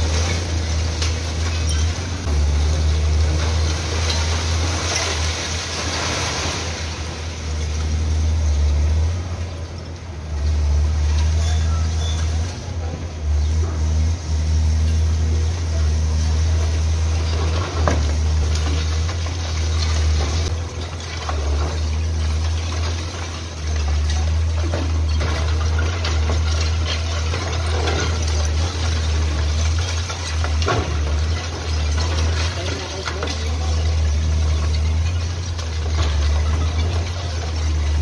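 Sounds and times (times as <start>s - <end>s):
concrete debris falling: 0.0s - 9.6s, 15.5s - 38.0s
diesel excavator engine running: 0.0s - 38.0s.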